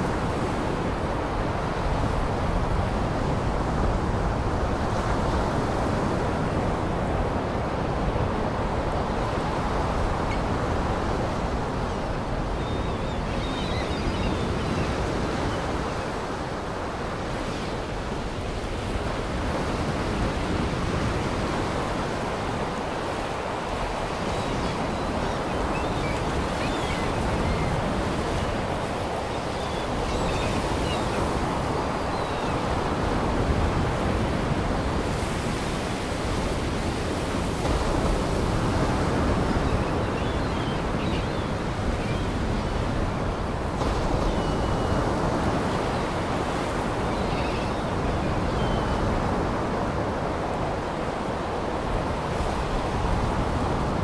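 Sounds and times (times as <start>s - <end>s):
wind: 0.0s - 54.0s.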